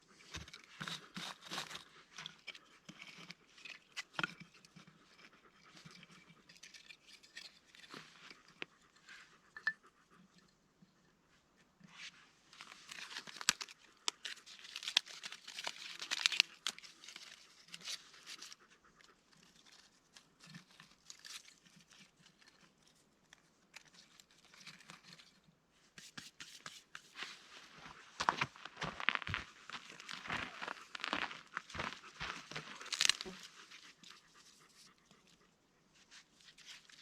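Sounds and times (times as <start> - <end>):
crinkling and rustling: 0.0 - 9.3, 11.9 - 35.3, 36.0 - 37.0.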